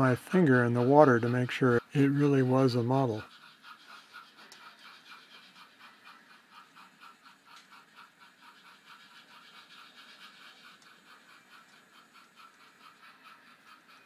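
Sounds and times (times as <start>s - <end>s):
model steam locomotive chuffing: 0.0s - 14.0s.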